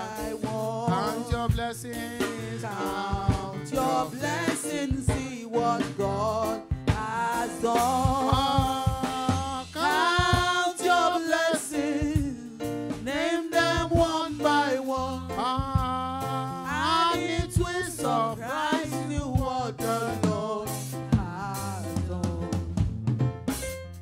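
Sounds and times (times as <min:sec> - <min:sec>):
man and women singing a hymn: 0:00.0 - 0:22.4
instrumental backing with bass: 0:00.0 - 0:24.0.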